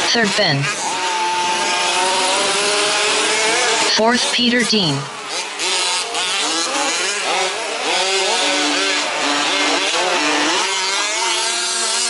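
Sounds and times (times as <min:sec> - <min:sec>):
small two-stroke engines racing: 0:00.0 - 0:12.0.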